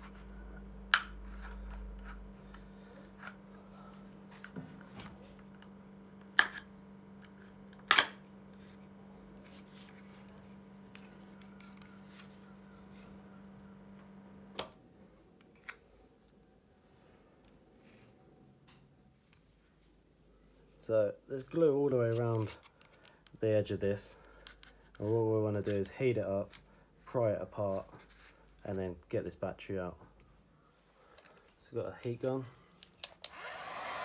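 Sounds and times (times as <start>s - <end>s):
steady low hum: 0.0s - 32.8s.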